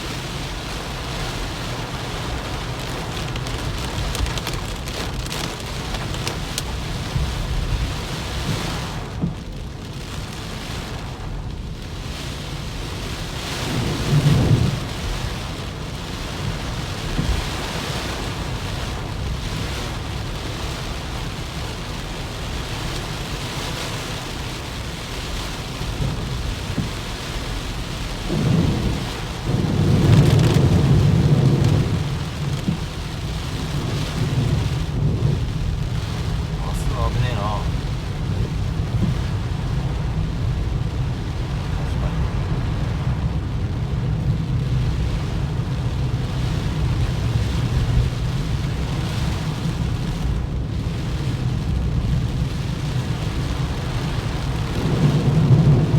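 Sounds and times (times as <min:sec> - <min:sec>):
deep rumbles: 0:00.0 - 0:23.6, 0:24.2 - 0:55.9
heavy rain pouring: 0:00.0 - 0:55.9.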